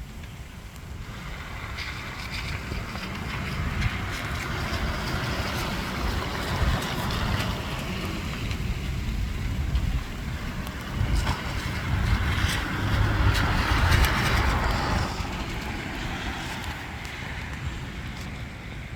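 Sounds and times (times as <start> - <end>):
rain and sleet hissing: 0.0 - 18.9
wind buffeting microphone: 0.0 - 18.9.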